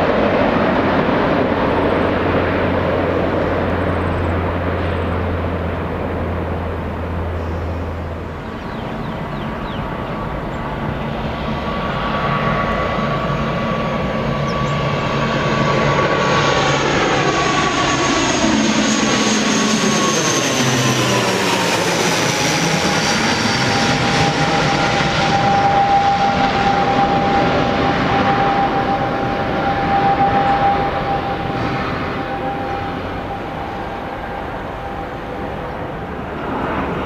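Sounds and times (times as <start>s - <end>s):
jet airliner passing overhead: 0.0s - 37.0s
jet engine whine: 0.0s - 37.0s.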